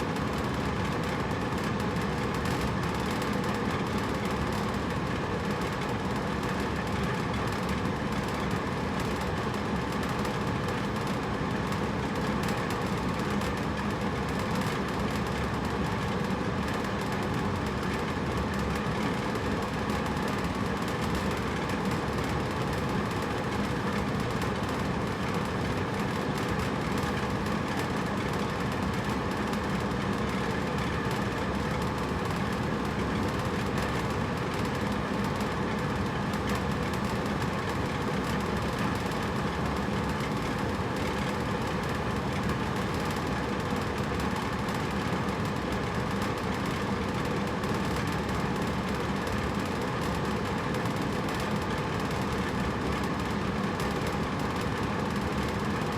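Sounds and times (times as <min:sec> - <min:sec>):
air conditioner humming: 0:00.0 - 0:55.9.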